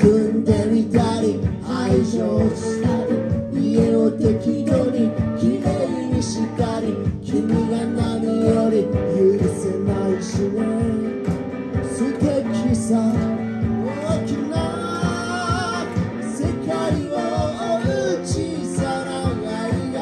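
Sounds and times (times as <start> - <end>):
guitar strumming: 0.0 - 20.0
flute melody: 1.6 - 20.0.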